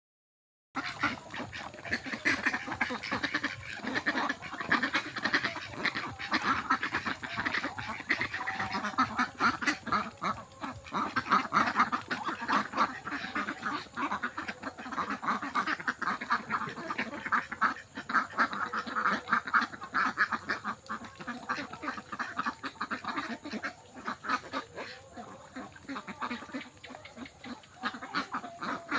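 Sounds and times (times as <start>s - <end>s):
ducks quacking: 0.8s - 28.9s.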